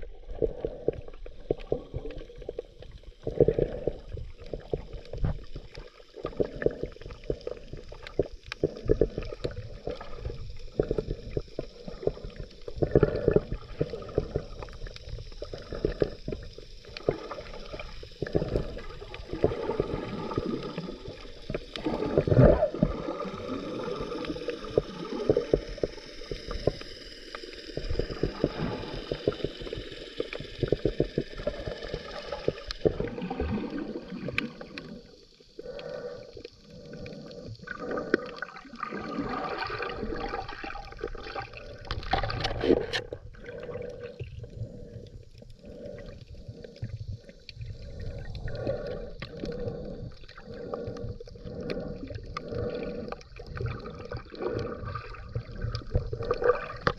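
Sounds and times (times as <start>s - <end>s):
regulator bubbles gurgling underwater: 0.0s - 56.9s.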